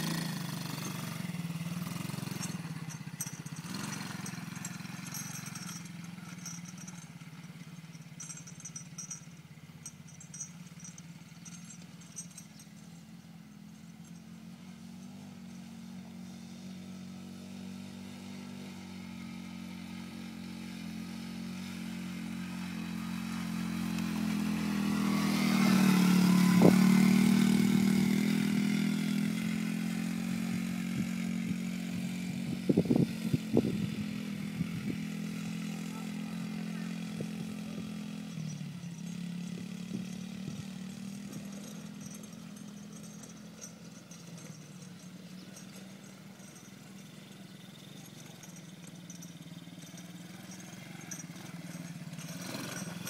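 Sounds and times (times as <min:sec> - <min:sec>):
small quad engine running: 0:00.0 - 0:53.0.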